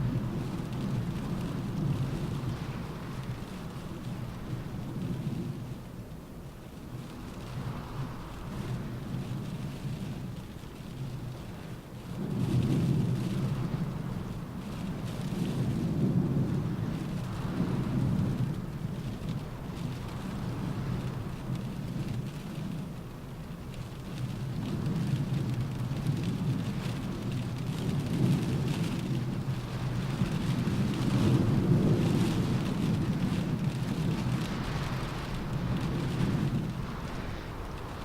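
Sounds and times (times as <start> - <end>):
rain pattering on car roof: 0.0 - 38.0
wind gusting around car: 0.0 - 38.0.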